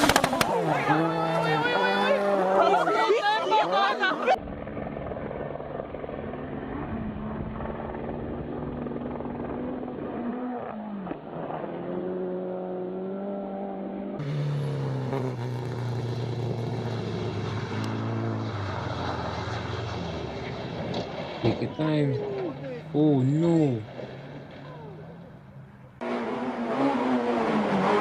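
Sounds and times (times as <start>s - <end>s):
rally car engines running hard: 0.0s - 3.2s, 4.1s - 28.0s.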